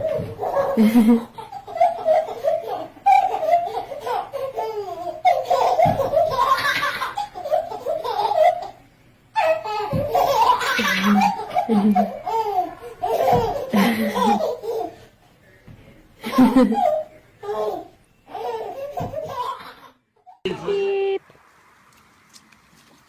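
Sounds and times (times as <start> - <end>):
baby laughing: 0.0 - 8.8, 9.4 - 15.0, 16.2 - 20.4.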